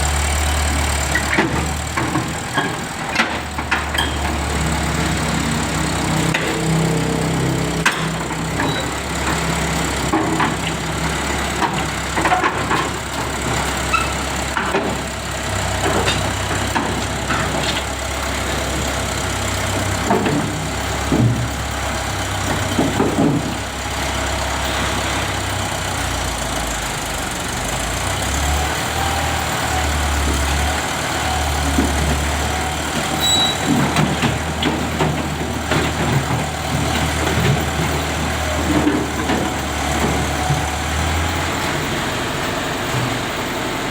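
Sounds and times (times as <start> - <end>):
heavy diesel engine drone: 0.0 - 43.9
knocks and clanks: 1.1 - 18.0, 18.6 - 23.8, 30.0 - 43.9.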